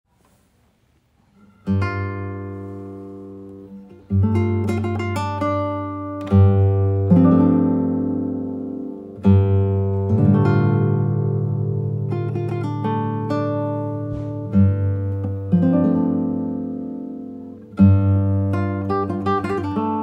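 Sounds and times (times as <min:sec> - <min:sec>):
acoustic guitar strummed chords: 0:01.3 - 0:20.0.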